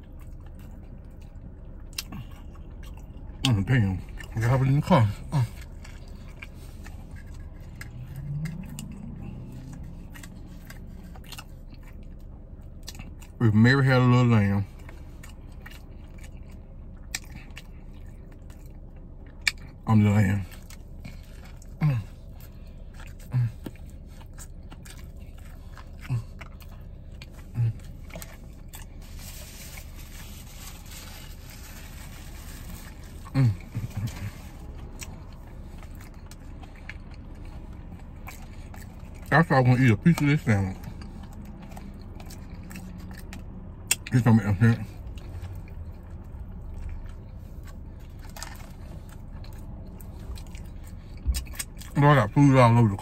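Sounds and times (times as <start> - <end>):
crunchy chewing: 0.0 - 13.4, 14.0 - 52.4.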